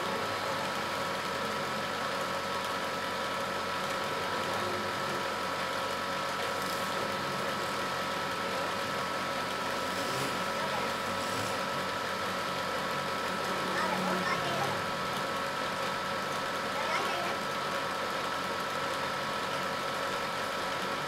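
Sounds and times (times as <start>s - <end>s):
wood lathe running: 0.0s - 21.0s.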